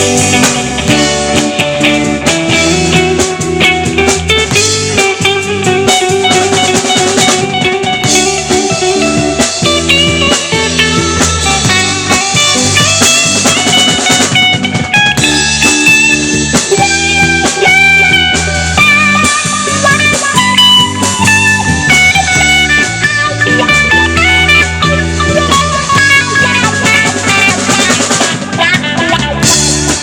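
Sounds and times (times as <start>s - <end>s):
bass guitar: 0.0s - 30.0s
drum kit: 0.0s - 30.0s
electric guitar lead notes: 0.0s - 30.0s.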